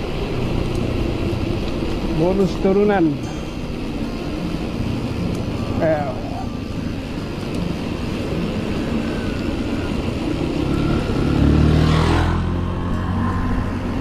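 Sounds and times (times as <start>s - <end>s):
vehicle engine passing: 0.0s - 14.0s.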